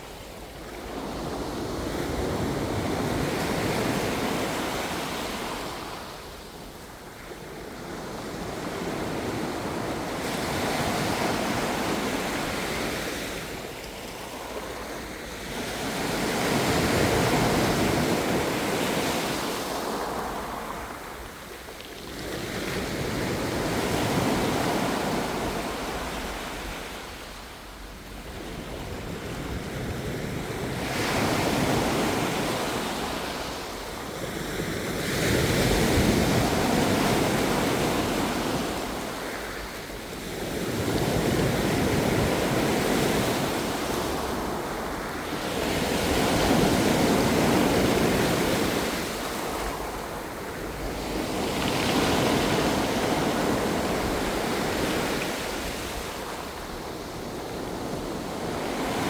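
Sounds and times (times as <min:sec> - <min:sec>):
ocean waves surging and washing back: 0:00.0 - 0:59.0.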